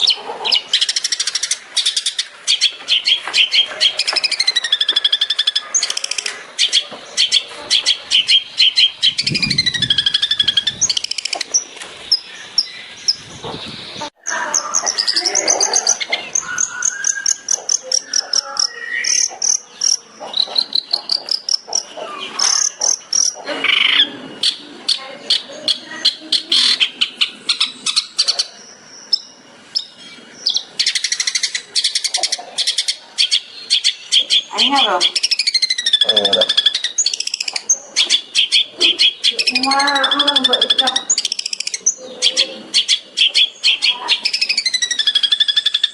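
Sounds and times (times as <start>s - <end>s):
shrike chattering song: 0.0s - 45.9s.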